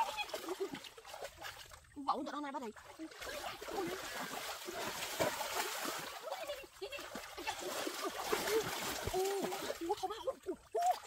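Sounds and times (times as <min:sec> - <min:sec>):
water plops and gurgles: 0:00.0 - 0:11.0
water splashing and sloshing: 0:00.0 - 0:11.0.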